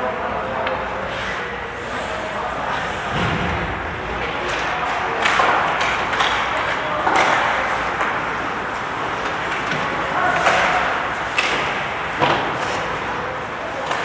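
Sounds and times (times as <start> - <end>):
hockey sticks clacking: 0.6 - 14.0.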